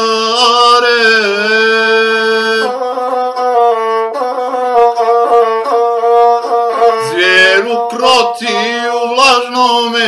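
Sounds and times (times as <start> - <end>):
bowed single-string fiddle: 0.0 - 10.0.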